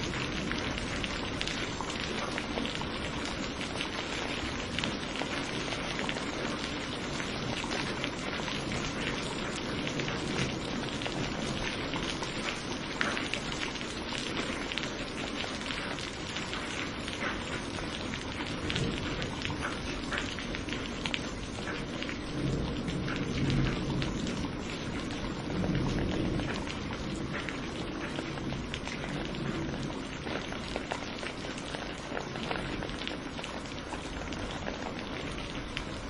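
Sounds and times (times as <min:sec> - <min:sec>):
low thunder rumbles: 0:00.0 - 0:14.6, 0:17.8 - 0:36.0
heavy rain: 0:00.0 - 0:36.0
raindrops ticking on a surface: 0:00.0 - 0:36.0.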